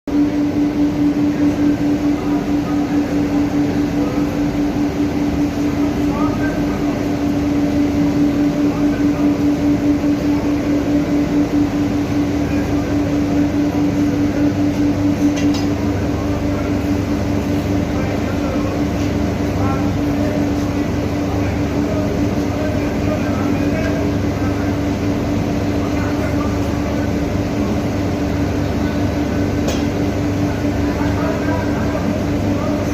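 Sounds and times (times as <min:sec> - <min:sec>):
industrial machinery hum: 0:00.1 - 0:32.9.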